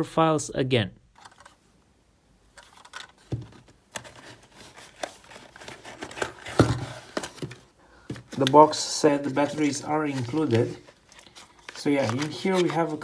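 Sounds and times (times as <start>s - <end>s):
cardboard scraping and rustling: 2.6s - 13.0s.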